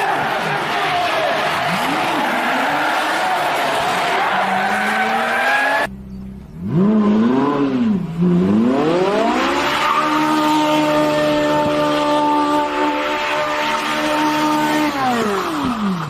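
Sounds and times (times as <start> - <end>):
car engine at high revs: 0.0 - 16.0
car engine revving: 0.0 - 16.0.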